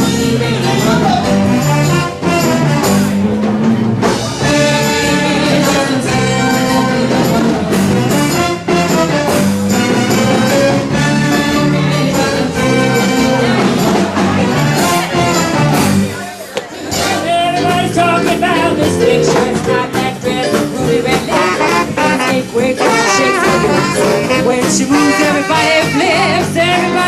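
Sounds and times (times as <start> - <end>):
live band music: 0.0 - 27.0.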